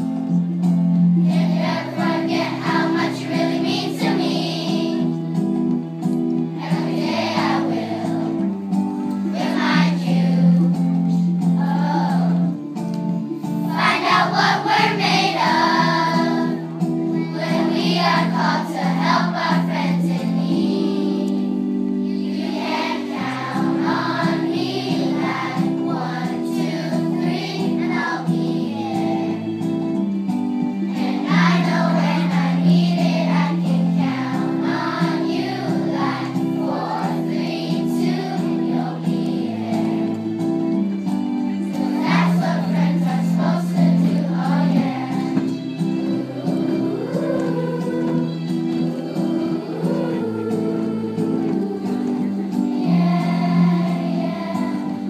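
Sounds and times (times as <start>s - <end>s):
held chord accompaniment: 0.0s - 55.0s
choir singing: 1.2s - 5.1s, 6.6s - 8.5s, 9.3s - 12.6s, 13.6s - 21.5s, 22.1s - 29.6s, 30.9s - 40.4s, 41.9s - 55.0s.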